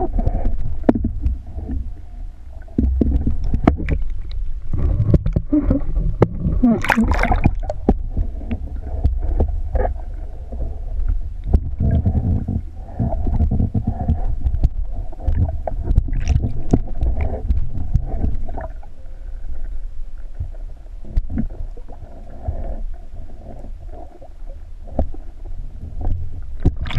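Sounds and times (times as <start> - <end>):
muffled underwater rumble: 0.0 - 26.9.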